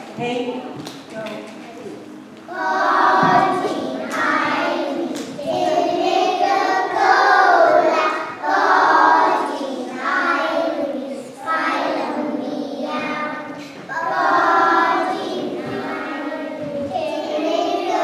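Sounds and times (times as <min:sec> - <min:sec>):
young children singing: 0:02.4 - 0:18.0.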